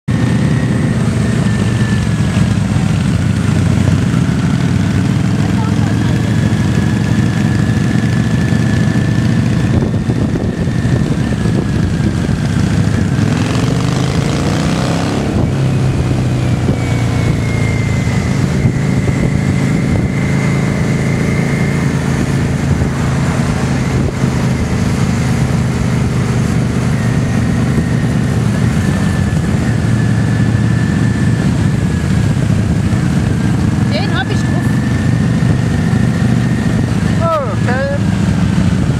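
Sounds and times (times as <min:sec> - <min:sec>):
motorcycle engines running: 0:00.1 - 0:38.9.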